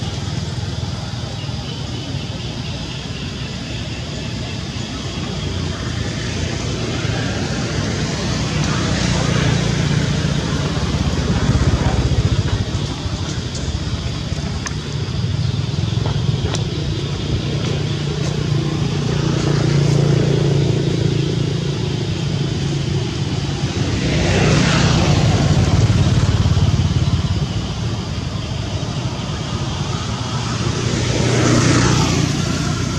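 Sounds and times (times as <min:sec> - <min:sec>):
vehicle engines humming: 0:00.0 - 0:32.9
vehicle passing by: 0:04.9 - 0:32.9.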